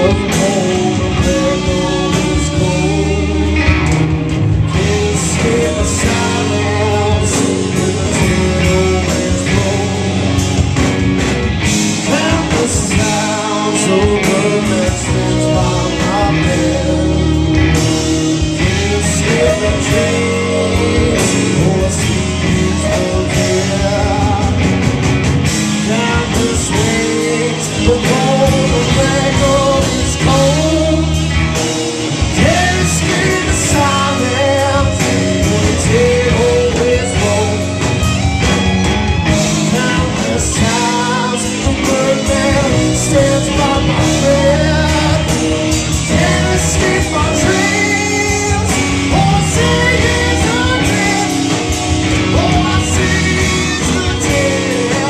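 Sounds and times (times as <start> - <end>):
person singing into a microphone: 0.0 - 10.7, 11.8 - 25.0, 25.6 - 55.0
drums: 0.0 - 55.0
electric guitars: 0.0 - 55.0.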